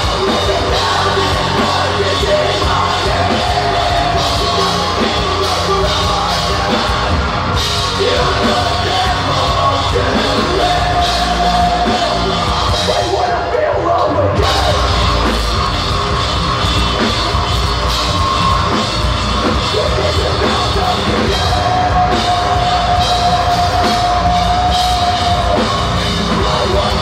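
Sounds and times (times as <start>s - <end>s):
person singing: 0.0s - 15.1s, 19.6s - 27.0s
drum kit: 0.0s - 27.0s
electric guitar: 0.0s - 27.0s.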